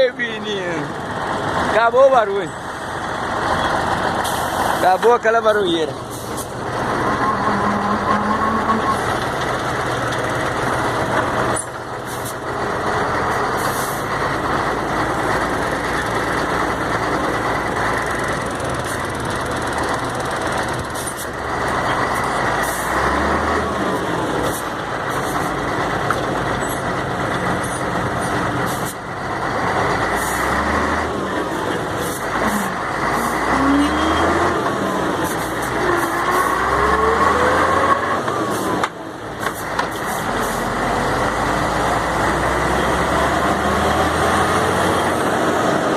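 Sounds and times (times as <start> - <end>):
diesel truck engine: 0.0 - 45.9.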